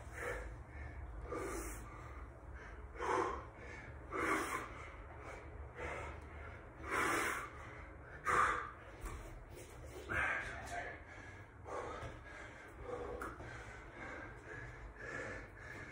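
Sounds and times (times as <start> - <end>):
man breathing heavily: 0.0 - 15.9.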